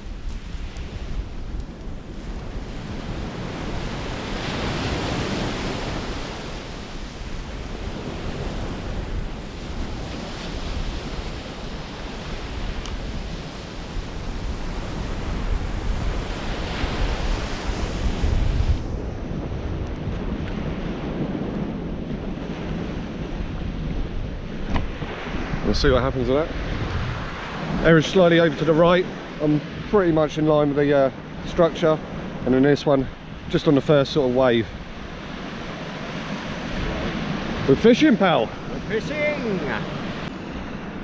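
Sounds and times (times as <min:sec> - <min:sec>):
sea waves breaking on beach: 0:00.0 - 0:41.0
wind buffeting microphone: 0:00.0 - 0:41.0.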